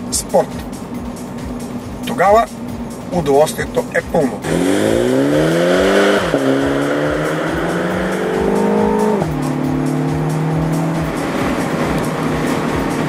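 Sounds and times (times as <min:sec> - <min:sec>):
background music with steady beat: 0:00.0 - 0:13.0
car engine accelerating hard: 0:00.0 - 0:13.0.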